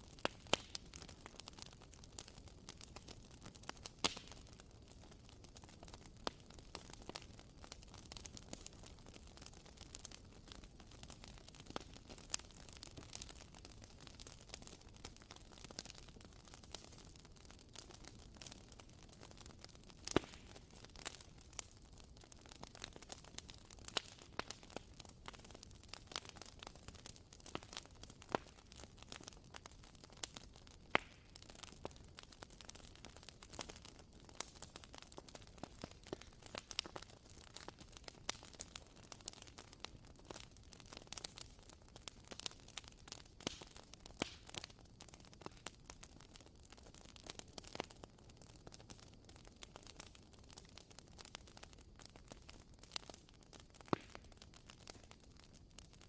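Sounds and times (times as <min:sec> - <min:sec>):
candle crackling: 0:00.0 - 0:46.3, 0:47.2 - 0:56.0.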